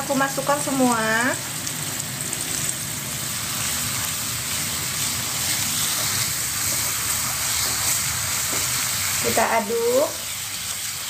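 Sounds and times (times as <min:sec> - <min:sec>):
spice paste sizzling in oil: 0:00.0 - 0:11.0.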